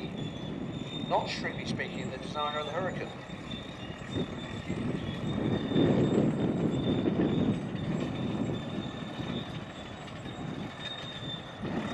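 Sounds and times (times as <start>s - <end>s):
earthmoving machine rumbling: 0.0s - 11.9s.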